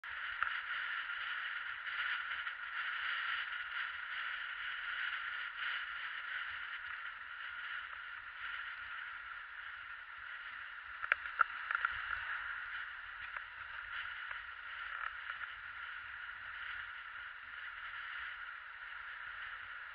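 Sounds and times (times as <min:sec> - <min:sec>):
wind and tyre noise hiss: 0:00.0 - 0:19.9.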